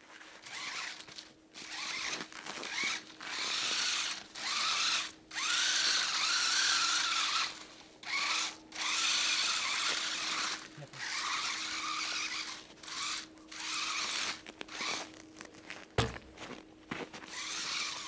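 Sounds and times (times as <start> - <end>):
toy car motor whining: 0.3 - 15.1, 17.3 - 18.0.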